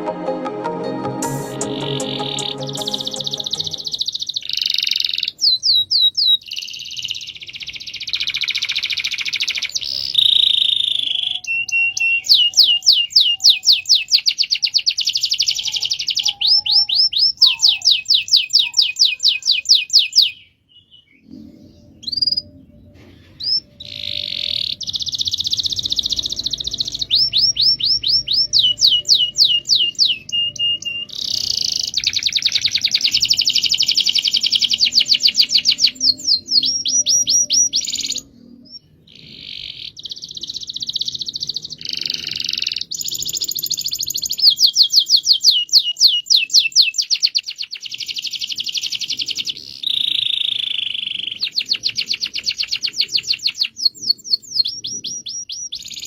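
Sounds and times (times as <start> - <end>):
canary singing trills: 1.3 - 56.0.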